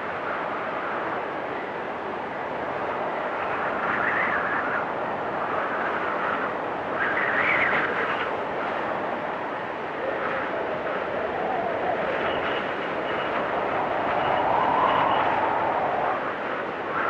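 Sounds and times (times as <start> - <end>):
storm wind gusting: 0.0 - 17.0.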